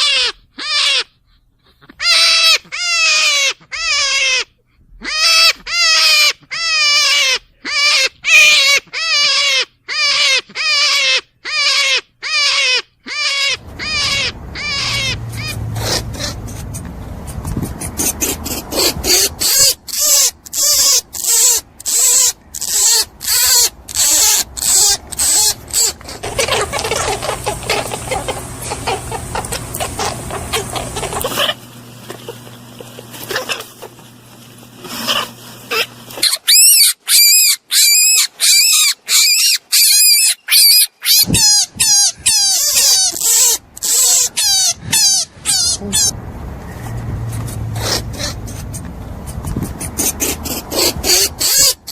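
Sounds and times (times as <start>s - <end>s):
rabbit squeaking: 0.0s - 51.9s.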